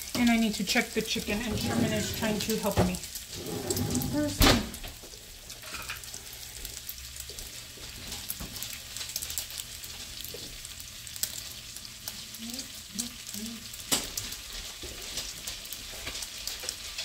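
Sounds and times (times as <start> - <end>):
butter sizzling in a frying pan: 0.0 - 17.0.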